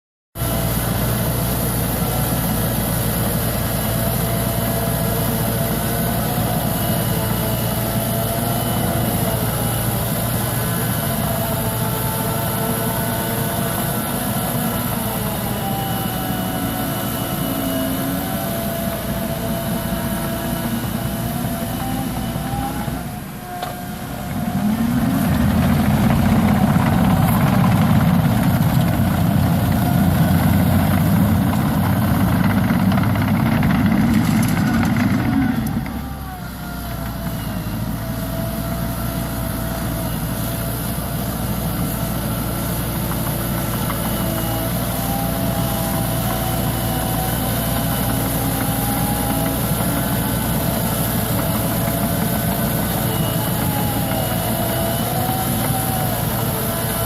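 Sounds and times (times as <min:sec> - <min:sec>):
bulldozer diesel engine working hard: 0:00.4 - 0:57.0.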